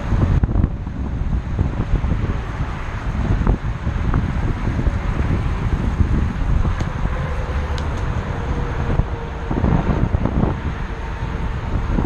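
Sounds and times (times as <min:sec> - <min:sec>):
tyres rumbling on trail: 0:00.0 - 0:12.0
wind rushing over microphone: 0:00.0 - 0:12.0.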